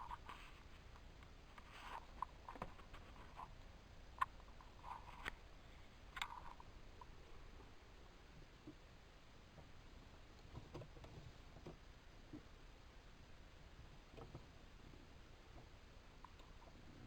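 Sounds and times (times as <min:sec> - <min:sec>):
faint clicks and soft taps: 0:00.0 - 0:07.8, 0:08.4 - 0:12.6, 0:13.6 - 0:17.0.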